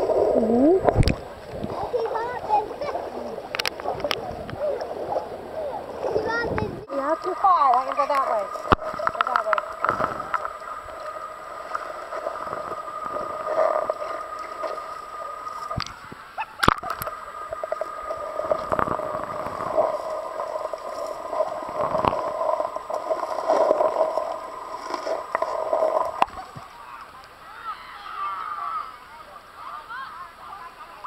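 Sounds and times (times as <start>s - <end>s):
underwater river gurgling: 0.0s - 31.0s.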